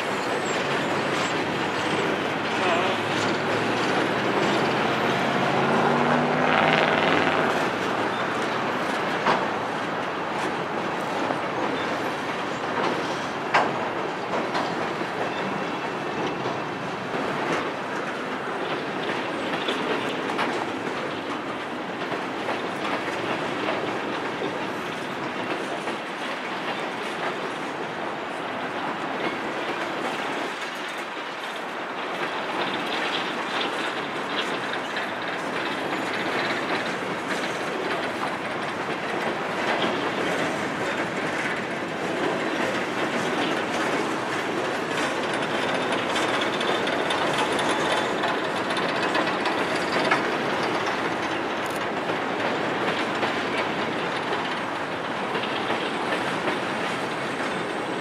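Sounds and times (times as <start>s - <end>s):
freight train wheels rattling: 0.0s - 58.0s.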